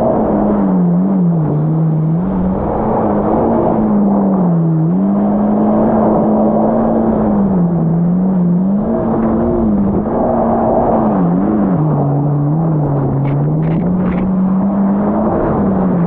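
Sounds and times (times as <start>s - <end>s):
jet ski engine revving: 0.0s - 16.0s.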